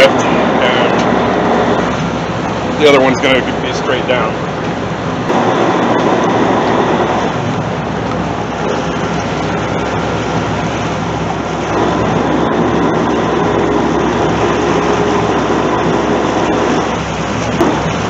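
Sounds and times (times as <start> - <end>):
boat engines humming: 0.0 - 18.0
water rushing along a hull: 0.0 - 18.0.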